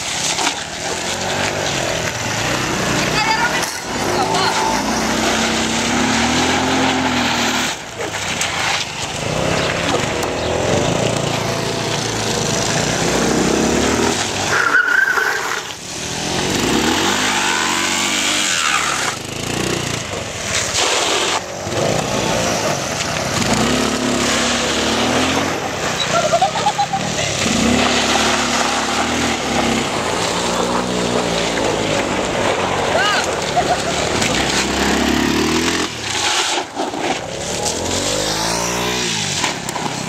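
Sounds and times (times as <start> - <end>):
scooter engines revving: 0.0 - 40.0
tyres squealing on asphalt: 0.0 - 40.0.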